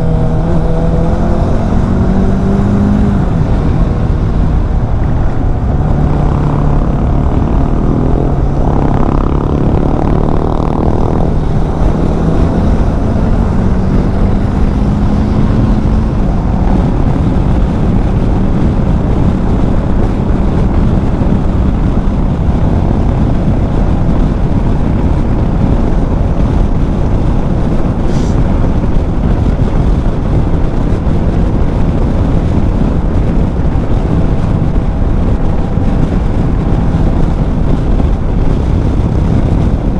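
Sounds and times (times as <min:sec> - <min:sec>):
heavy wind rush: 0:00.0 - 0:39.9
motorcycle engine running: 0:00.0 - 0:39.9.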